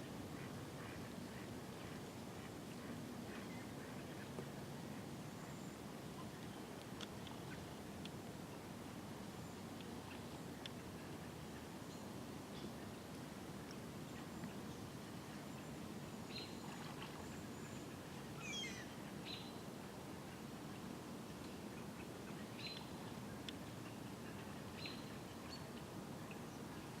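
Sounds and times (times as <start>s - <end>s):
low background noise: 0.0s - 27.0s.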